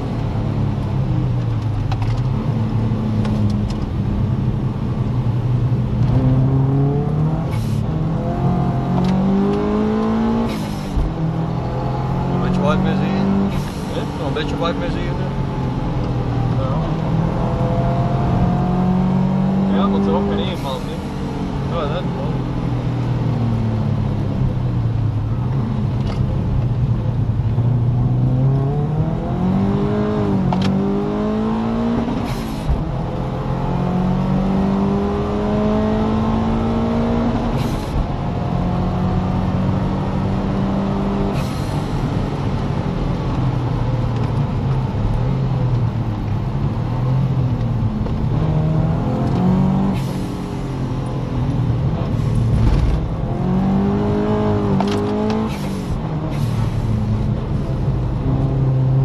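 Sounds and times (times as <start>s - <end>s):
car engine accelerating through gears: 0.0s - 59.0s.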